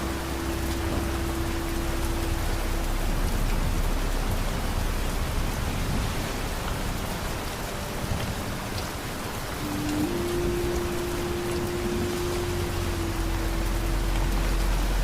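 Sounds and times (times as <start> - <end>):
deep low rumble: 0.0 - 15.0
rain falling: 0.0 - 15.0.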